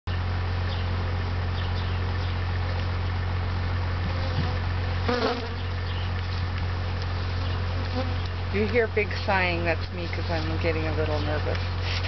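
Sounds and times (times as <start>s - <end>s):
honeybees buzzing: 0.2s - 12.0s.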